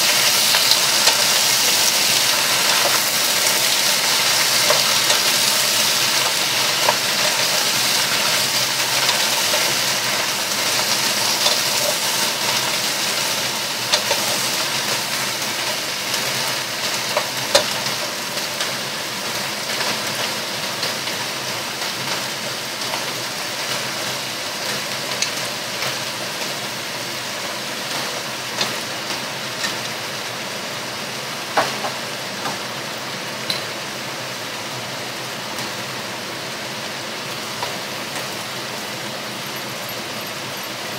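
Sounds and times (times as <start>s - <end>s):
cabbage sizzling in a pot: 0.0s - 40.9s.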